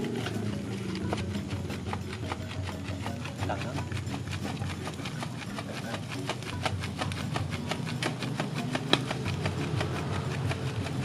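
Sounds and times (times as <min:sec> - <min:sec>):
hand fan flapping: 0:00.0 - 0:11.0.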